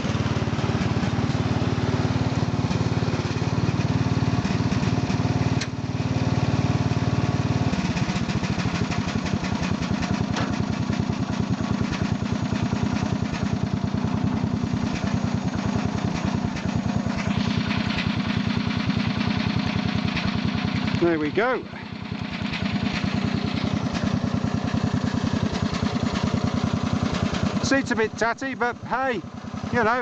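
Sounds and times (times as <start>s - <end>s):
lawn tractor engine running: 0.0s - 30.0s.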